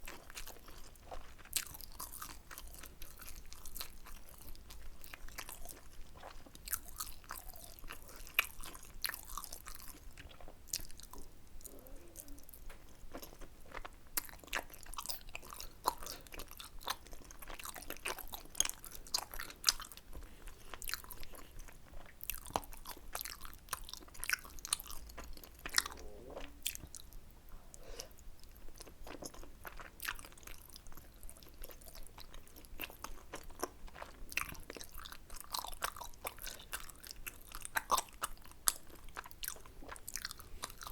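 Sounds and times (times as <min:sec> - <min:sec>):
close chewing and biting: 0:00.0 - 0:40.9.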